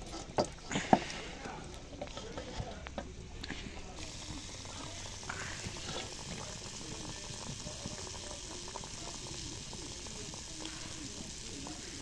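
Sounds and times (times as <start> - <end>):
batter deep-frying in hot oil: 0.0 - 12.0.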